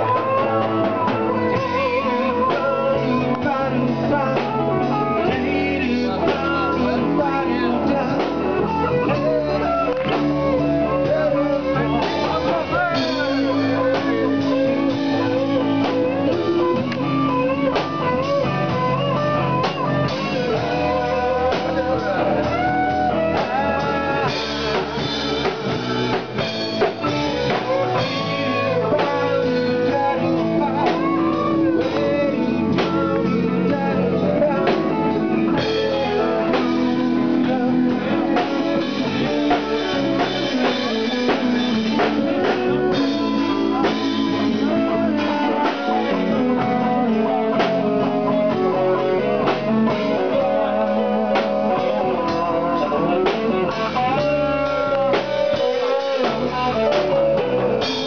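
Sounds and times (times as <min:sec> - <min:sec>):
electric guitar lead with bent notes: 0:00.0 - 0:58.0
live rock band playing: 0:00.0 - 0:58.0.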